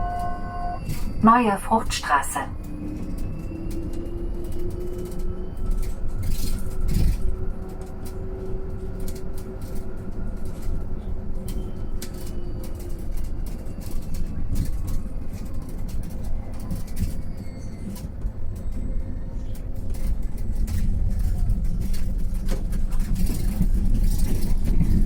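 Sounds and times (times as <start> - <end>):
electric bus drive whine: 0.0 - 25.0
road rumble: 0.0 - 25.0.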